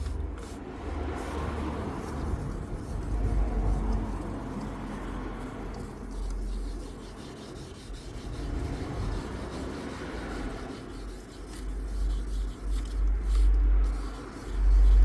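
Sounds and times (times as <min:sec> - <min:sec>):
sandpaper rubbing on car panel: 0:00.0 - 0:15.0.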